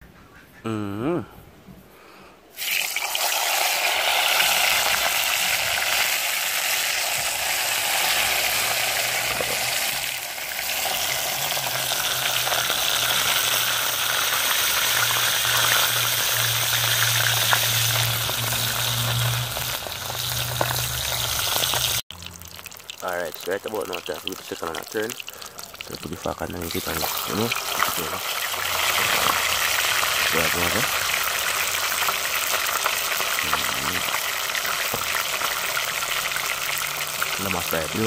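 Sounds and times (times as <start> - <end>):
hot oil sizzling: 2.5 - 38.0.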